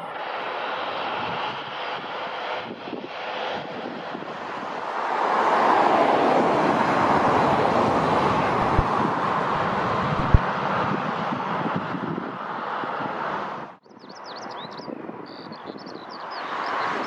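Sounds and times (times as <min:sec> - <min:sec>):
jet engine roar: 0:00.0 - 0:13.8.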